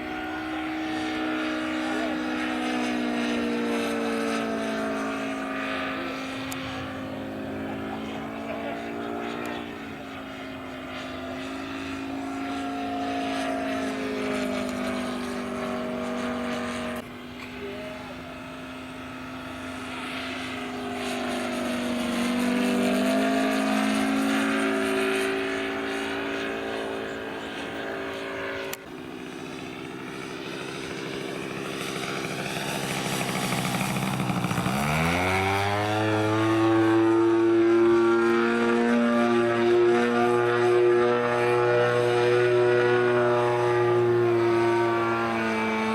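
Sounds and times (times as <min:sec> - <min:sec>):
model airplane engine and propeller: 0:00.0 - 0:45.9.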